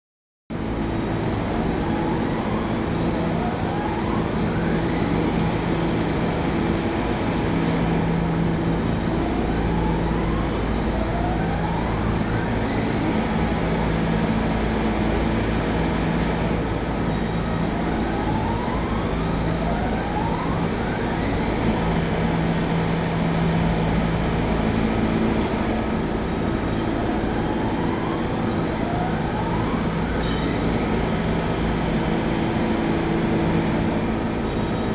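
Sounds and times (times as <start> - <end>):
subway train running noise: 0.5 - 34.9
rising whine: 0.6 - 34.9.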